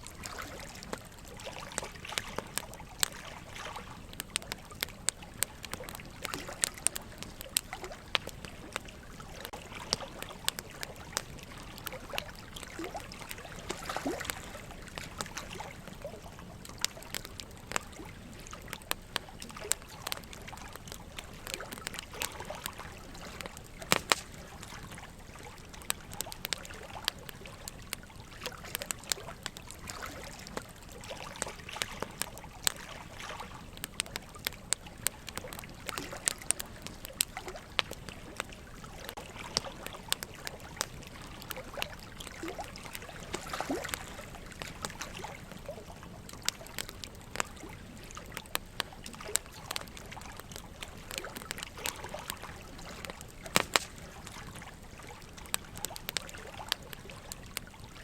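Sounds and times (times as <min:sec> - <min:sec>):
running water trickling: 0:00.0 - 0:58.0
wood fire crackling and popping: 0:00.0 - 0:58.0.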